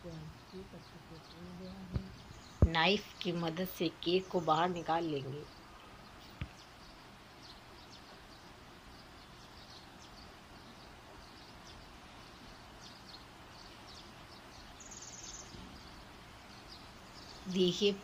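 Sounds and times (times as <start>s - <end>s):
faint background noise: 0.0s - 18.0s
small birds chirping: 0.0s - 18.0s.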